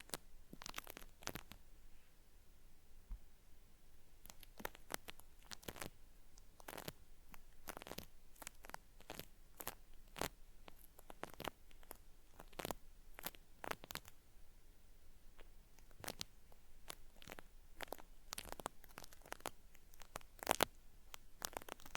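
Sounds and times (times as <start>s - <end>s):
cotton swab crackling in microphone: 0.0s - 1.6s, 4.2s - 14.2s, 15.4s - 21.9s.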